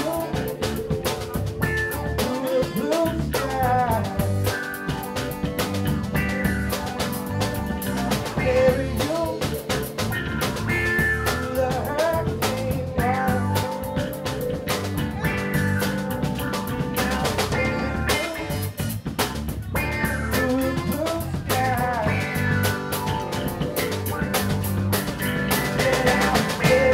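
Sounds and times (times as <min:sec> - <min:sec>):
drum kit beat: 0:00.0 - 0:26.9
electric bass guitar: 0:00.0 - 0:26.9
electric guitar bending pitch: 0:00.0 - 0:26.9.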